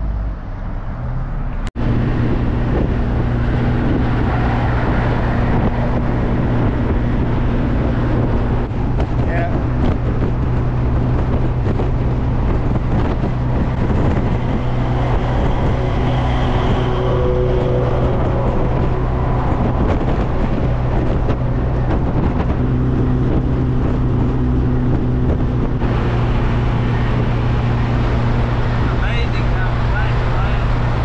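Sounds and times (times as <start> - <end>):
car engine hum: 0.0 - 31.0
truck passing: 0.0 - 31.0
wind and road noise: 0.0 - 31.0.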